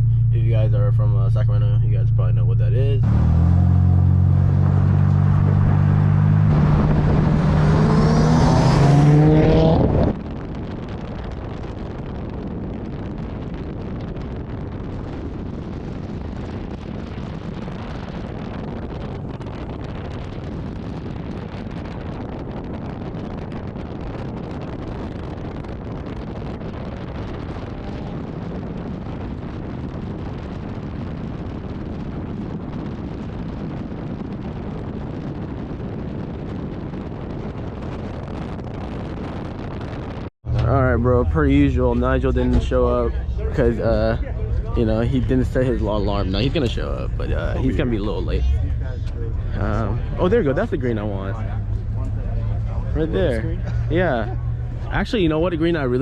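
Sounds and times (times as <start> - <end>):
car road and wind noise: 0.0 - 56.0.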